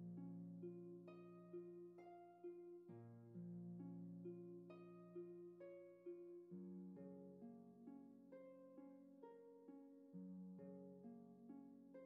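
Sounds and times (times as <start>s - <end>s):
slow harp music: 0.0s - 10.0s.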